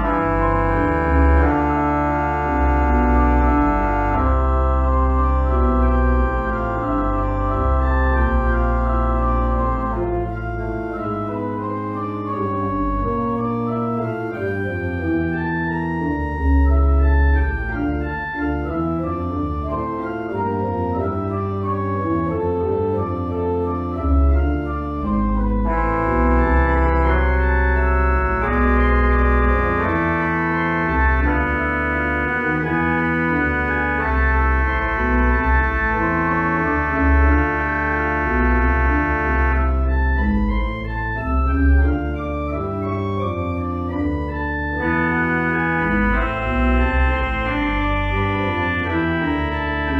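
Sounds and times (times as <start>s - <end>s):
church organ chords: 0.0s - 49.9s.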